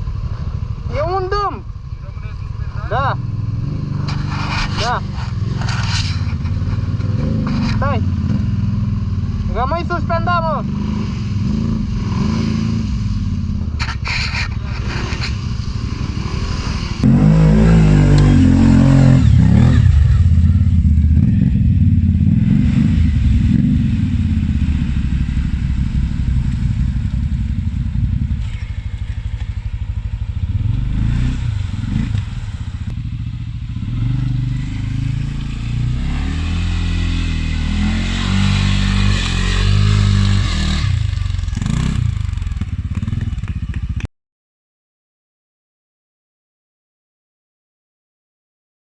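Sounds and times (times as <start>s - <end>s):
atv engine revving: 0.0s - 44.1s.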